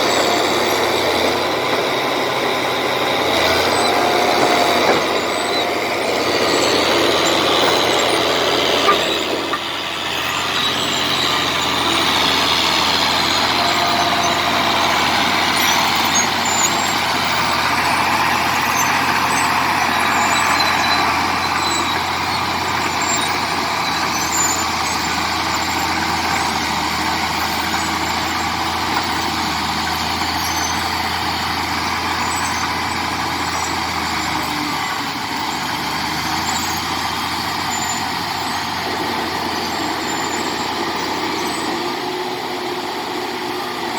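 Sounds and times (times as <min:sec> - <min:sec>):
bulldozer diesel engine running: 0:00.0 - 0:43.9.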